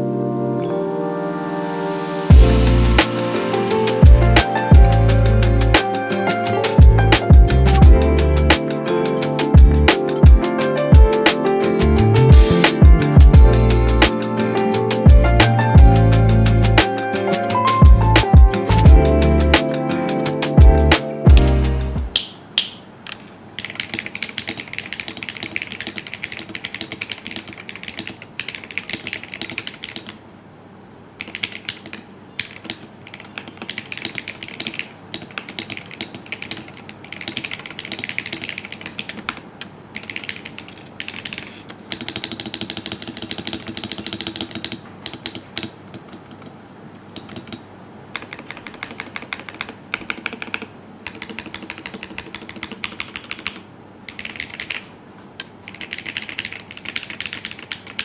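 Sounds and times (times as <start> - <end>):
mechanical keyboard typing: 3.1 - 22.3, 23.6 - 30.2, 31.2 - 46.5, 47.2 - 58.0.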